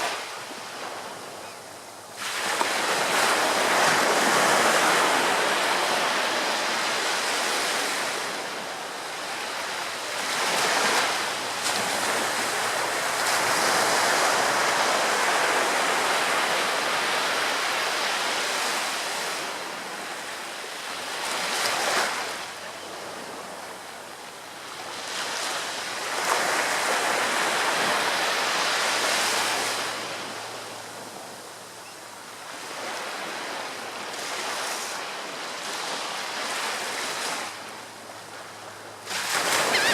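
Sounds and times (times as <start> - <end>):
waves breaking: 2.2 - 23.8, 24.6 - 31.4, 32.2 - 39.9.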